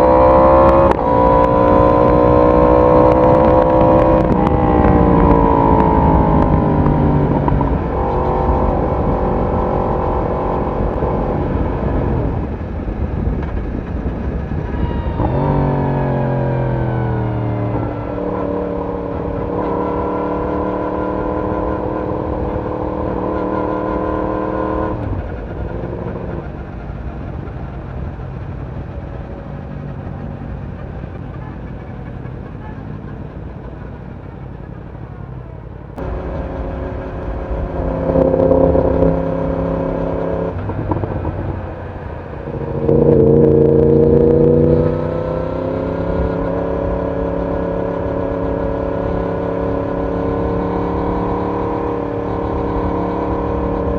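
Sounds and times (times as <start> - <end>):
motorcycle exhaust revving: 0.0 - 34.7, 36.0 - 53.9.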